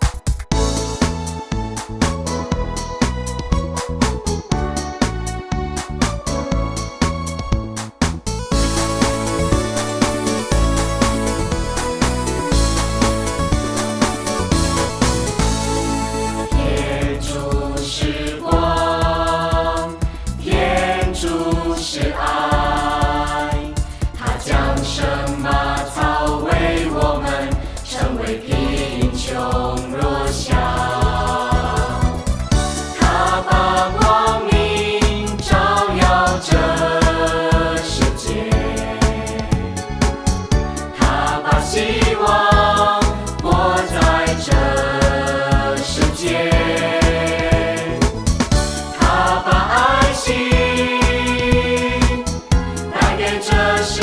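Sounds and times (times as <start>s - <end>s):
steady beat: 0.0s - 54.0s
upbeat pop song with choir: 0.0s - 54.0s
choral voices holding long notes: 8.5s - 54.0s.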